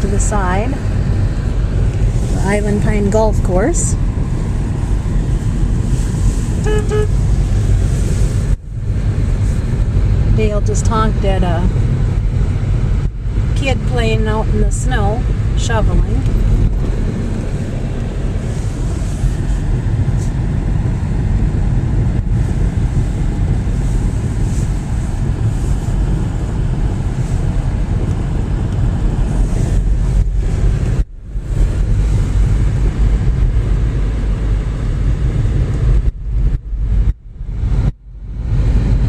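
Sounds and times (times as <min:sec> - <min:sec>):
car engine and road noise: 0:00.0 - 0:39.0.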